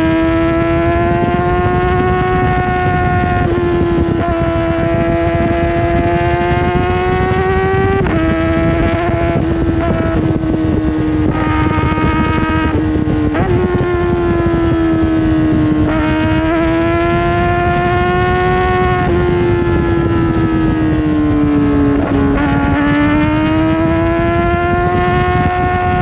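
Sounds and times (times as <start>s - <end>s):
motorcycle engine at high revs: 0.0s - 26.0s
wind and road noise: 0.0s - 26.0s.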